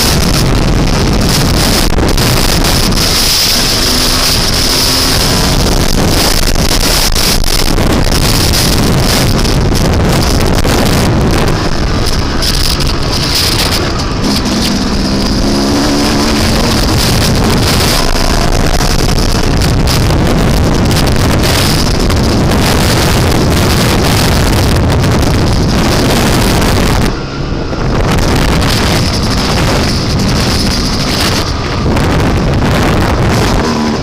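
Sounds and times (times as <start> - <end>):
dirt bike engine: 0.0 - 34.0
wind noise on microphone: 0.0 - 34.0.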